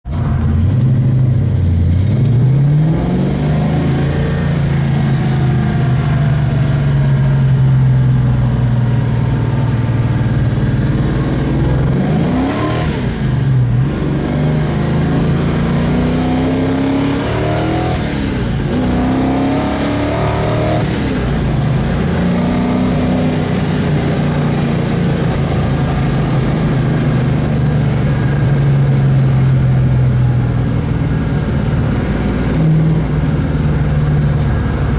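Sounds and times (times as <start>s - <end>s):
car engine shifting gears: 0.0s - 34.9s.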